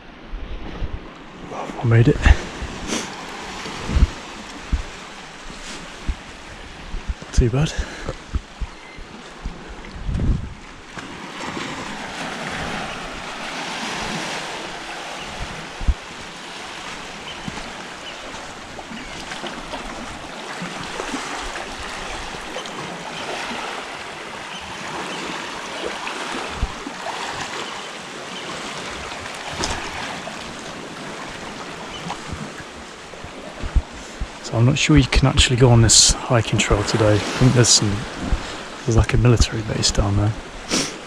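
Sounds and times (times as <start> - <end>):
small waves washing over sand: 0.0 - 41.0.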